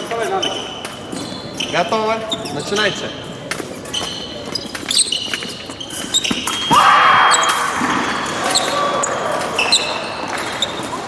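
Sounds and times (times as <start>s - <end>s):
footwork stamps and shoe squeaks: 0.0s - 11.0s.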